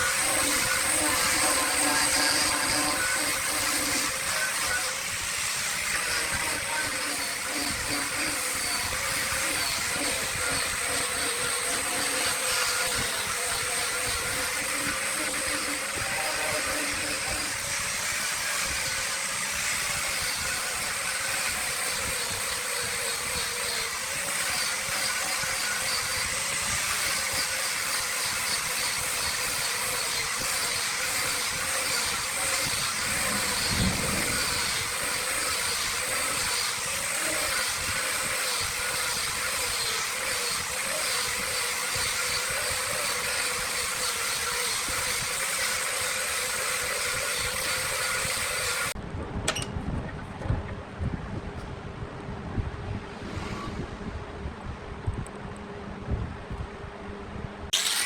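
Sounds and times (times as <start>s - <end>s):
wood lathe hissing: 0.0s - 49.0s, 57.8s - 58.0s.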